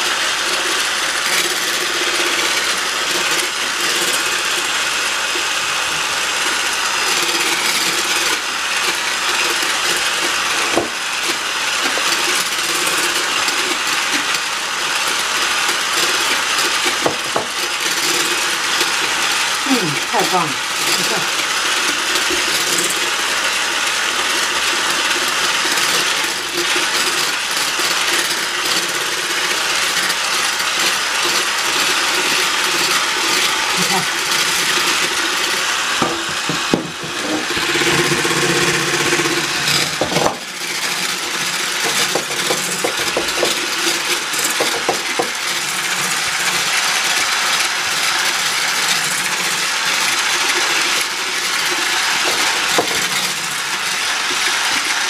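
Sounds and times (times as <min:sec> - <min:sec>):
electric hand mixer whipping: 0:00.0 - 0:55.0.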